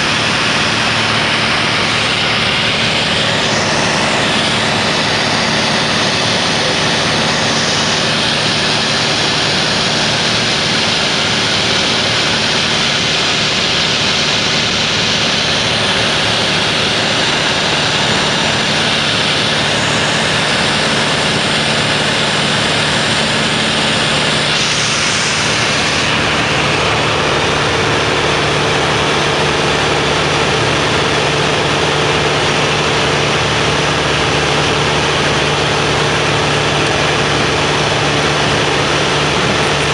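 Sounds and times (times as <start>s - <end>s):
propeller aircraft engine drone: 0.0s - 39.9s
rushing airflow: 0.0s - 39.9s.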